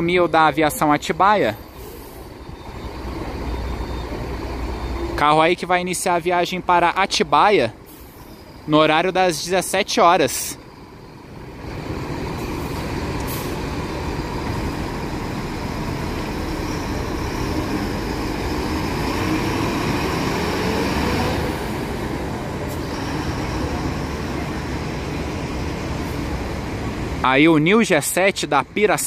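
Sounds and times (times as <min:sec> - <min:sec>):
coach diesel engine accelerating: 0:00.0 - 0:29.0.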